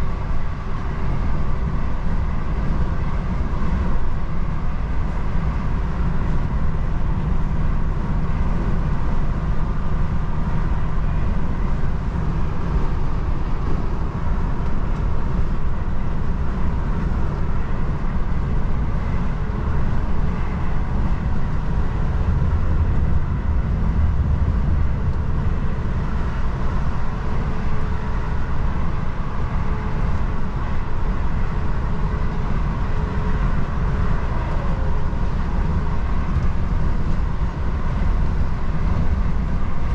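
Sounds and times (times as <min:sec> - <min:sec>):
truck diesel engine drone: 0:00.0 - 0:39.9
tyre and road noise: 0:07.9 - 0:39.9.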